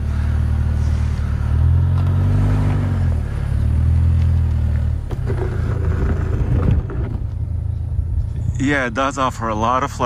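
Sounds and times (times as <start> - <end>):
suv engine at low revs: 0.0 - 10.0
tires crunching over dirt: 0.0 - 10.0.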